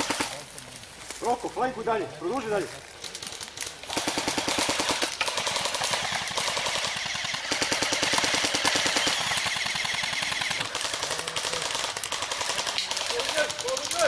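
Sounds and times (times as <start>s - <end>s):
airsoft guns firing rapid clicks: 0.0s - 0.4s, 3.0s - 14.0s.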